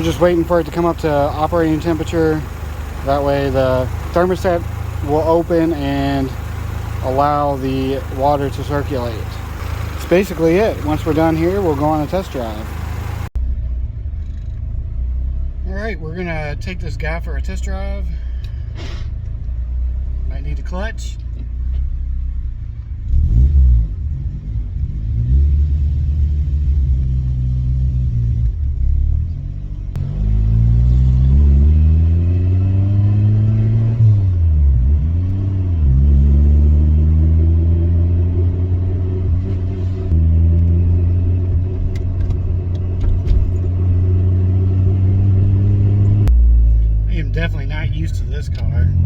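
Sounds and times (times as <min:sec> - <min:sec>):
car engine accelerating through gears: 0:00.0 - 0:13.3, 0:21.2 - 0:49.0.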